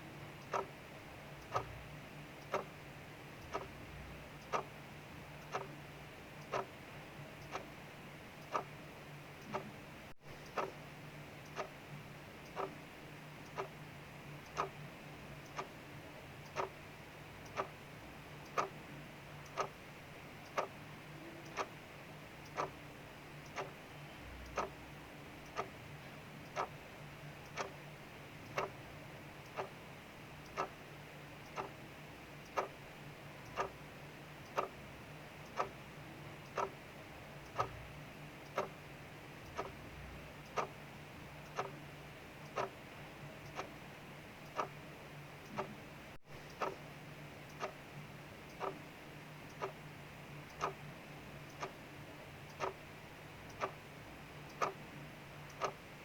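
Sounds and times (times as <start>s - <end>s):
clock ticking: 0.2s - 56.0s.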